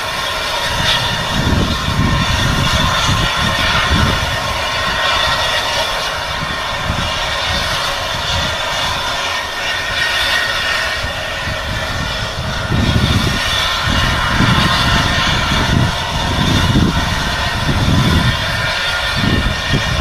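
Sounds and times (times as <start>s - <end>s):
pulsing low rumble: 0.0s - 20.0s
steam locomotive running: 0.0s - 20.0s.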